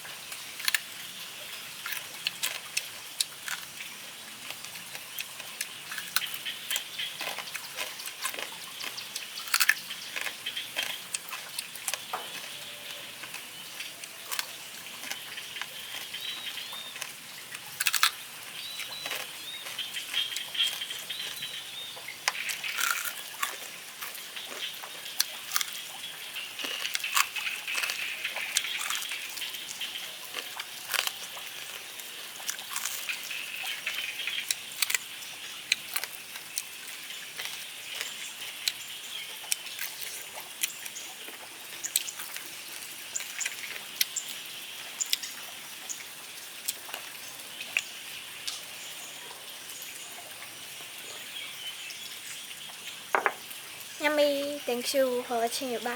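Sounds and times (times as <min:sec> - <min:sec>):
crunchy pork rinds crunching: 0:00.0 - 0:48.8
mouth chewing: 0:00.6 - 0:45.4, 0:46.6 - 0:47.9.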